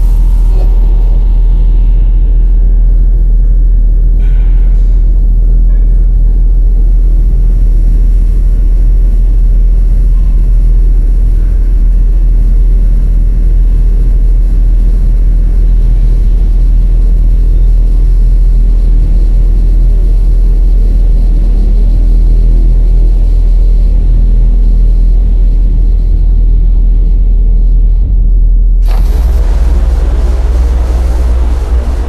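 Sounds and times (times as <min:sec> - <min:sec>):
deep spaceship rumble: 0:00.0 - 0:32.0.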